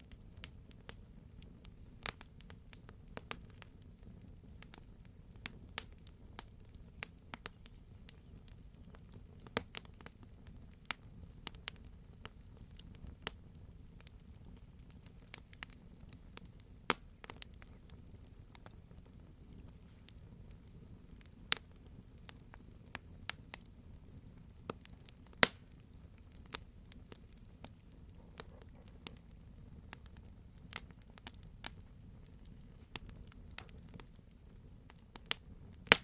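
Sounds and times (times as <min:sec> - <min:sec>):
flames rumbling: 0:00.0 - 0:36.0
wood crackling and popping: 0:00.0 - 0:36.0.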